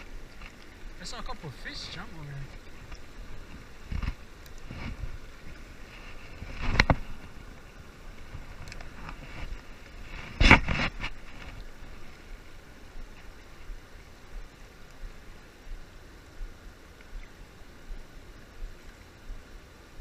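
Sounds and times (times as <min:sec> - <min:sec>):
river water rushing: 0:00.0 - 0:20.0
wind on the microphone: 0:02.3 - 0:20.0.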